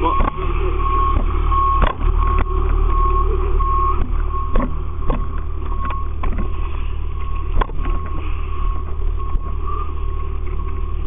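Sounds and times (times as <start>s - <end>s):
fire engine diesel engine running: 0.0s - 11.0s
short beeps: 0.0s - 11.0s.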